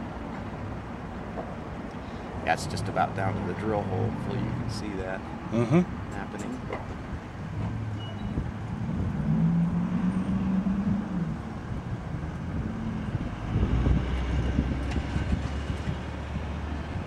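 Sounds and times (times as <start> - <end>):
vehicle engine humming: 0.0 - 17.0
deeper rumble: 2.4 - 17.0.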